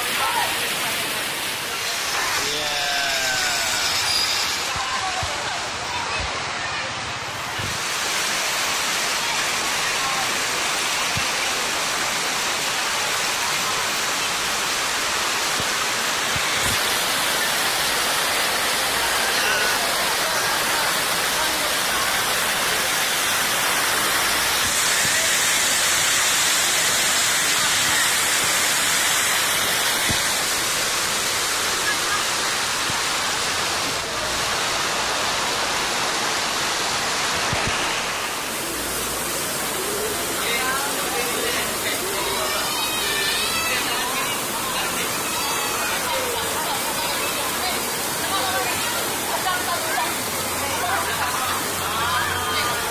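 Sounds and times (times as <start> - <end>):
water rushing over rocks: 0.0 - 52.9.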